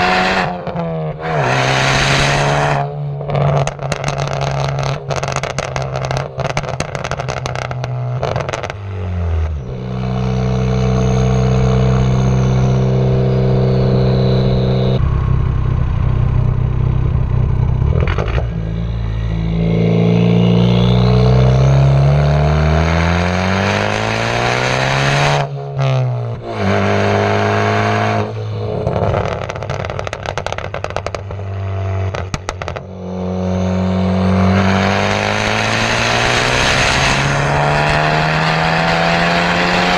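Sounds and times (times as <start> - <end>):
car engine droning and revving: 0.0 - 39.9
exhaust popping and crackling: 0.6 - 19.3, 25.5 - 39.9.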